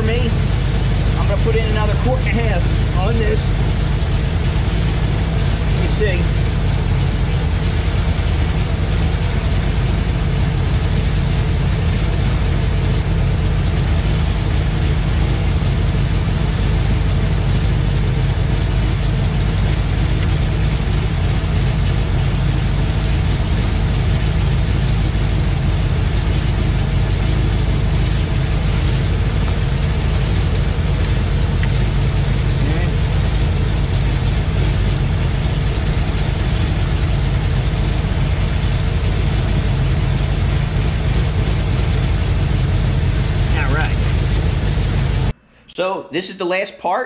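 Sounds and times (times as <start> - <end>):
car engine idling: 0.0 - 45.6.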